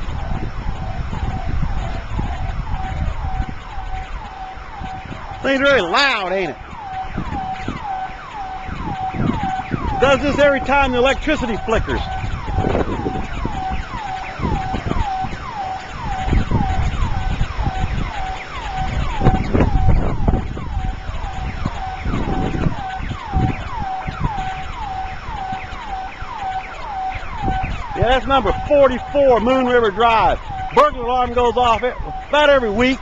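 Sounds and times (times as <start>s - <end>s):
burglar alarm siren whooping: 0.0s - 33.0s
wind rumbling on microphone: 0.0s - 33.0s.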